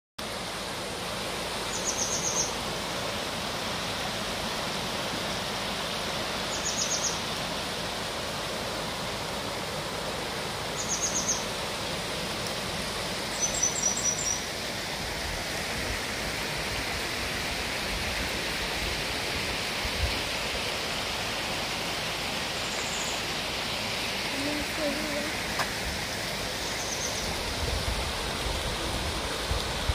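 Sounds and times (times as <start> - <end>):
stream rushing over rocks: 0.2 - 29.9.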